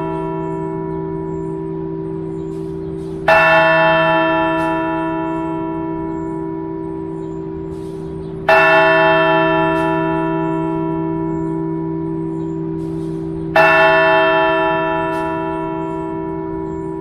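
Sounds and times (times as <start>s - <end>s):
church bell strokes: 0.0s - 17.0s
hum of ringing bells: 0.0s - 17.0s.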